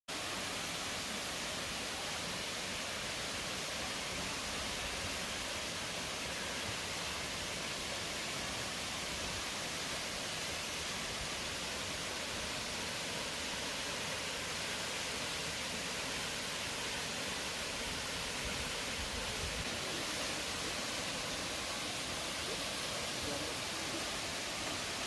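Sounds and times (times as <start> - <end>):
waterfall rushing: 0.1 - 25.0.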